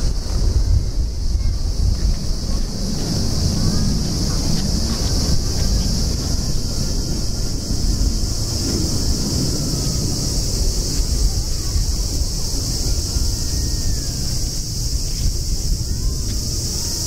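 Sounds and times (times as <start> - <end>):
high hiss: 0.0 - 17.0
jet engines roaring at takeoff: 0.0 - 17.0.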